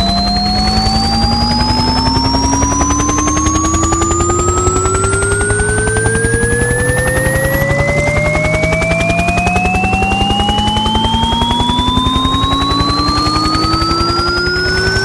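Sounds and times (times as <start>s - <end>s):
helicopter rotor chopping: 0.0s - 15.0s
sine tones sweeping upward: 0.0s - 15.0s.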